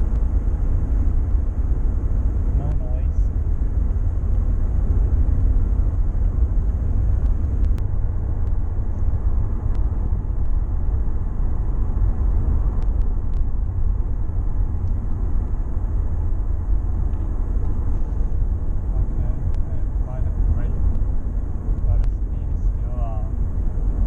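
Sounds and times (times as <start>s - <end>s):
road and engine rumble: 0.0s - 24.0s.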